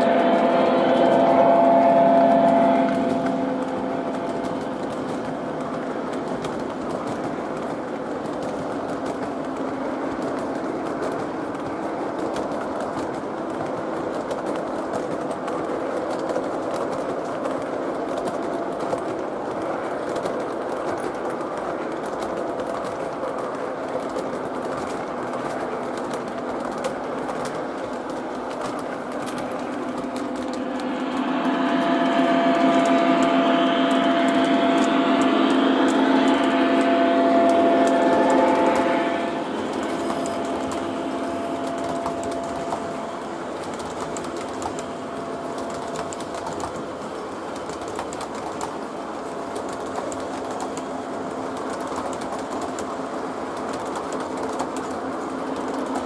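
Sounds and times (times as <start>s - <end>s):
metal wheels rolling on track: 0.0s - 56.0s.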